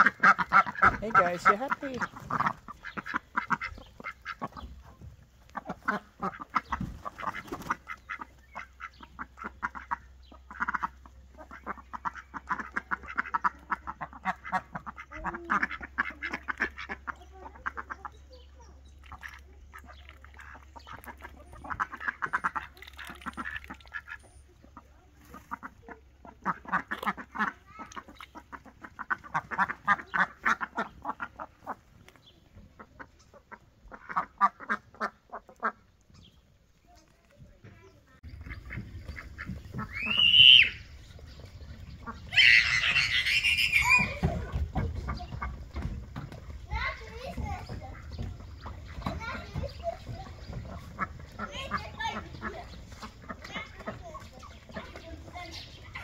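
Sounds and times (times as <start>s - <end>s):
ducks quacking: 0.0s - 36.6s, 37.5s - 56.0s.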